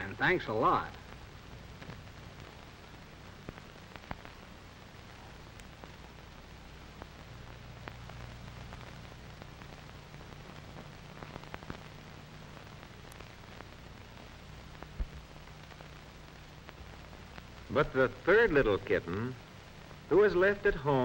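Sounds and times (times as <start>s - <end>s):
crackling clicks: 0.0s - 20.8s
steady hiss: 0.0s - 21.0s.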